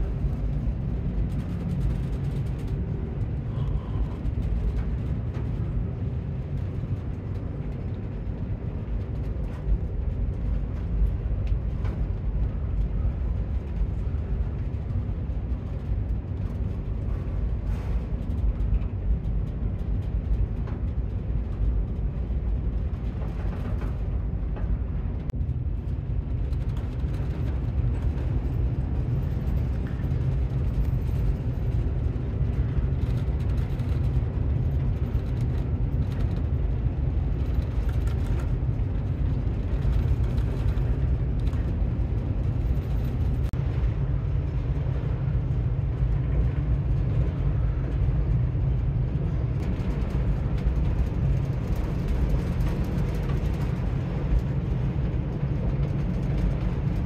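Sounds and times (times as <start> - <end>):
ferry low rumble: 0.0 - 57.0.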